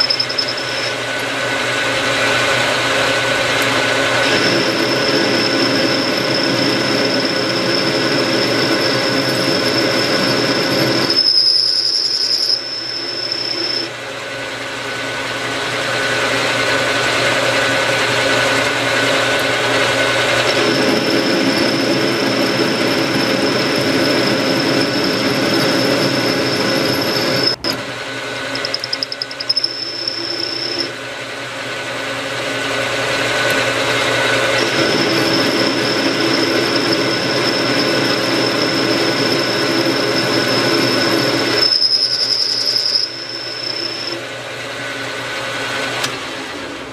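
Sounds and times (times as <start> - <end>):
lathe motor whine: 0.0 - 46.9
lathe running and cutting noise: 0.0 - 46.9.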